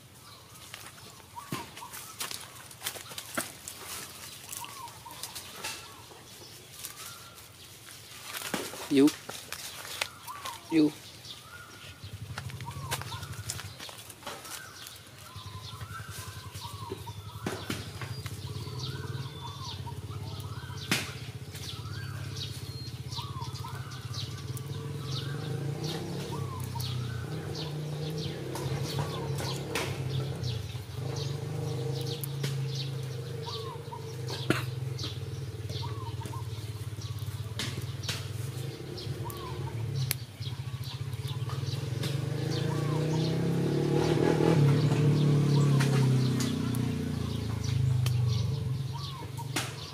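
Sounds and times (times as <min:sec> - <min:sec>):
bird calling: 0:00.0 - 0:49.9.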